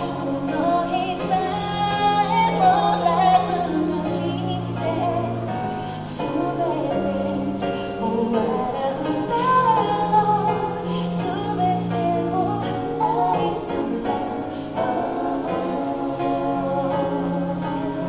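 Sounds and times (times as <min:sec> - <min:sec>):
piano accompaniment: 0:00.0 - 0:18.0
woman singing a ballad: 0:00.0 - 0:18.0.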